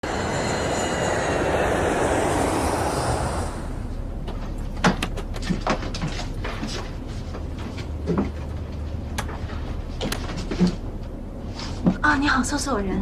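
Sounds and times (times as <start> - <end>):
cabin hum: 0.0 - 12.5
jet engine roar and whine: 0.0 - 12.8.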